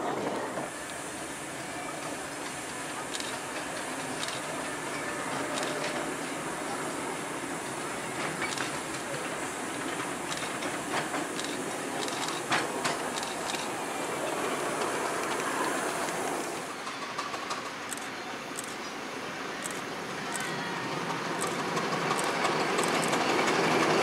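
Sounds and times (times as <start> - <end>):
steam hiss: 0.0 - 24.0
wheels clicking over rail joints: 1.9 - 18.8, 19.7 - 24.0.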